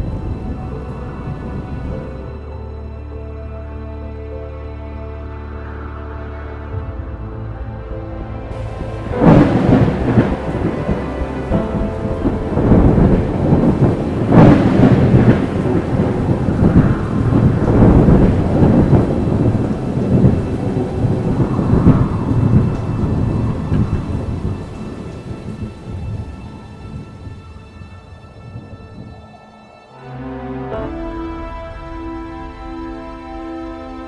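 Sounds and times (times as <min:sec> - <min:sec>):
rolling thunder: 0:00.0 - 0:02.8, 0:06.5 - 0:34.0
rain: 0:00.0 - 0:34.0.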